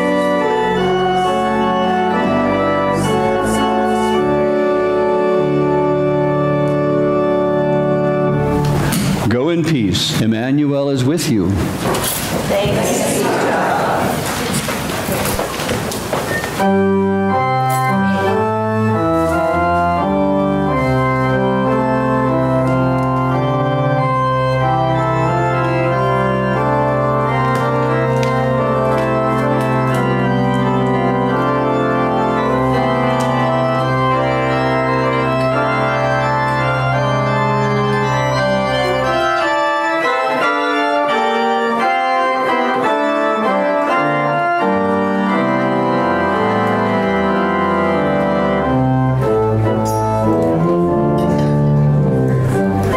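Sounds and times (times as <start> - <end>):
organ bass note: 0.0 - 9.6, 16.6 - 52.9
organ chords: 0.0 - 52.9.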